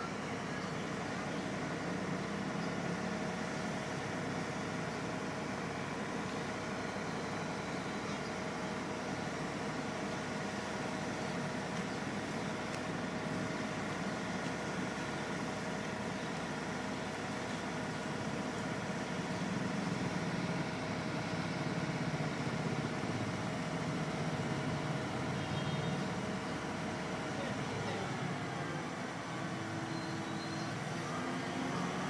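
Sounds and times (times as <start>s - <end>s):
crane engine running: 0.0s - 32.0s.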